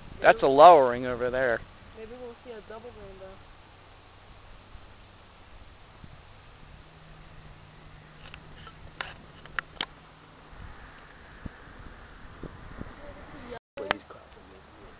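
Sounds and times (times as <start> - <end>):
insects trilling: 0.0 - 14.9
soft hiss: 0.0 - 14.9.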